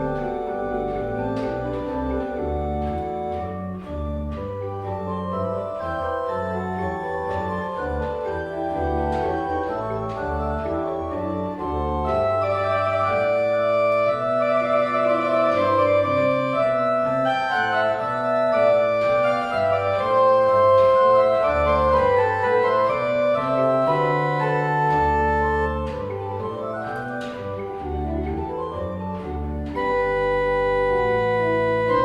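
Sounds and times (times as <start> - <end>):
organ music: 0.0 - 32.0.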